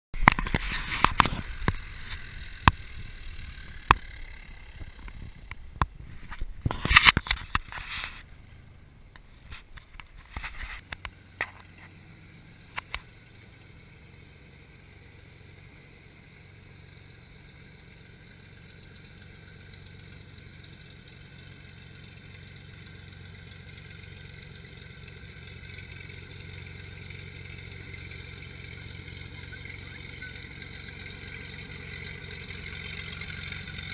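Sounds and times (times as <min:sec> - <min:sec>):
propeller plane engine running: 0:00.1 - 0:33.9.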